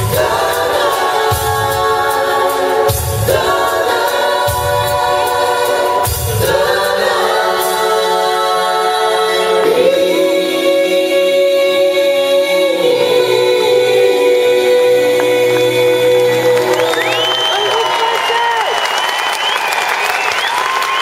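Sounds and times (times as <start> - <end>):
soul band with brass playing: 0.0 - 21.0.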